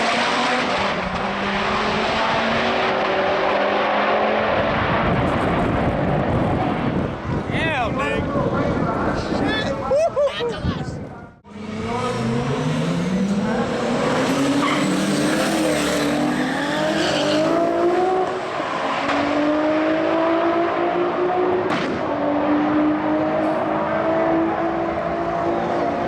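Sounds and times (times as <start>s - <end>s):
race car engines at full throttle: 0.0s - 7.5s, 11.4s - 26.0s.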